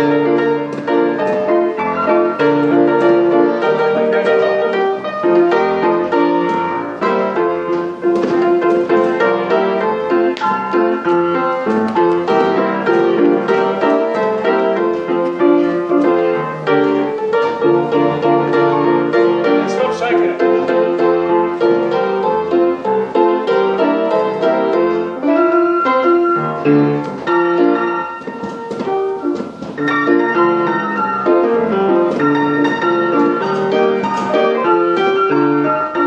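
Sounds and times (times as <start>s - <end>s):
player piano playing: 0.0s - 36.0s.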